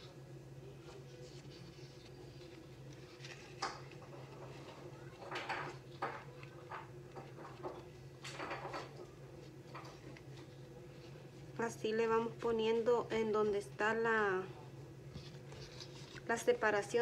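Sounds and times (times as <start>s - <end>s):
steady low hum: 0.0s - 17.0s
soft foam rustles: 0.1s - 8.1s, 9.2s - 17.0s.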